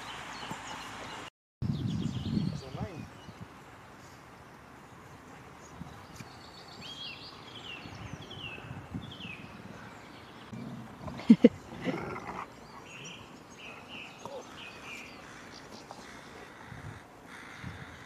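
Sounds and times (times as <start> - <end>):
birdsong: 0.0 - 18.0.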